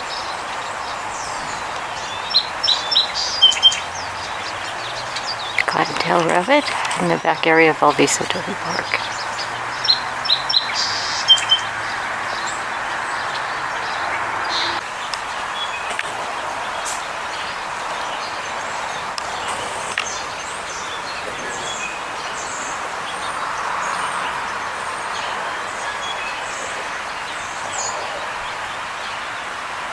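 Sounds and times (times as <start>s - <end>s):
birds chirping: 0.0s - 28.7s
outdoor background rush: 0.0s - 29.9s.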